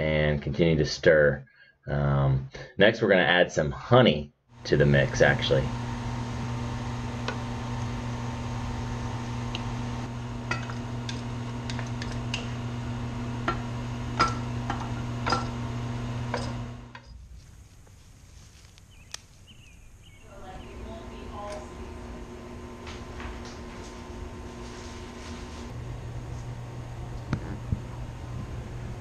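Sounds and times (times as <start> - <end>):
low hum: 4.6 - 18.7, 19.7 - 29.0.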